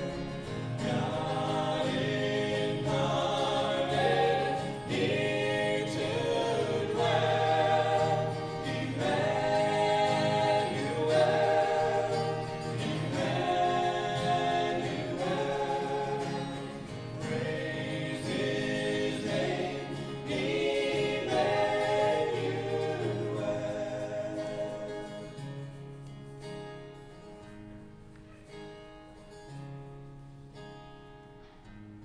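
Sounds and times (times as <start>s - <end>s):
church choir singing: 0.0s - 26.4s.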